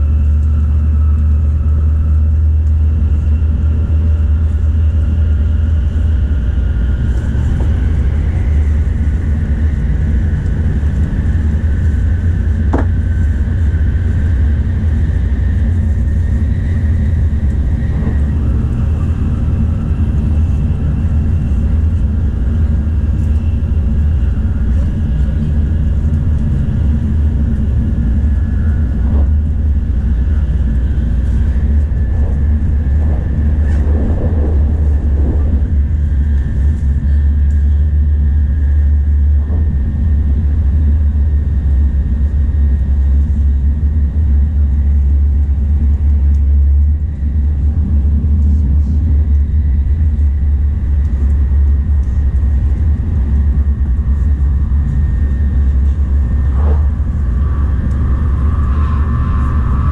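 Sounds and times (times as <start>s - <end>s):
faint whining tones: 0.0s - 59.9s
train interior low rumble: 0.0s - 59.9s.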